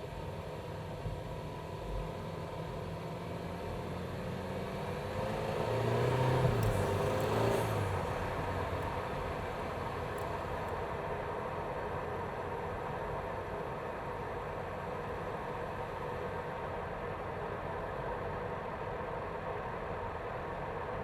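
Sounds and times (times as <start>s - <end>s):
car engine idling and revving: 0.1s - 17.1s.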